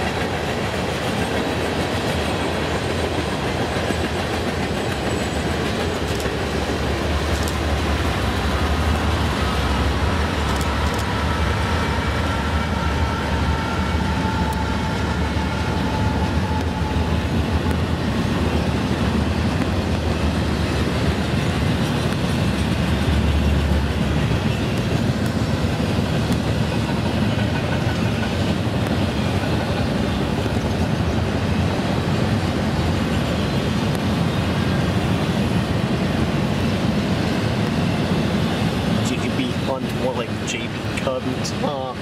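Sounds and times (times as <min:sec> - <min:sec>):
freight wheels rumbling on rails: 0:00.0 - 0:42.0
faint locomotive tone: 0:02.2 - 0:42.0.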